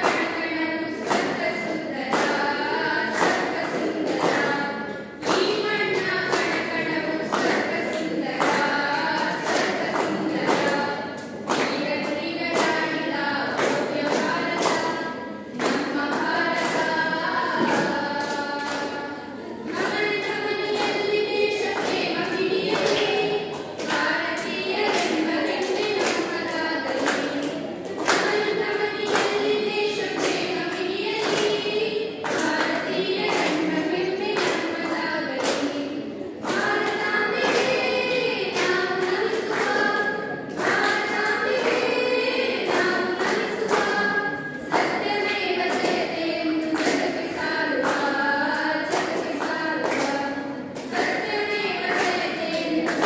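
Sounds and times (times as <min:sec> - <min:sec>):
girls singing together: 0:00.0 - 0:53.0.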